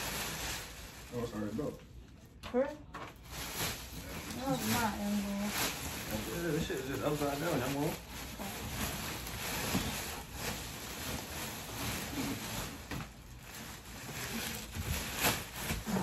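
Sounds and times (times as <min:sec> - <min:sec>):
plastic wrap rustling and crinkling: 0:00.0 - 0:16.0.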